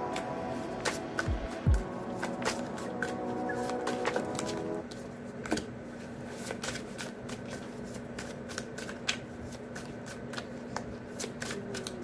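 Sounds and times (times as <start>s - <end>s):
cards being shuffled: 0.1s - 1.0s, 2.2s - 12.0s.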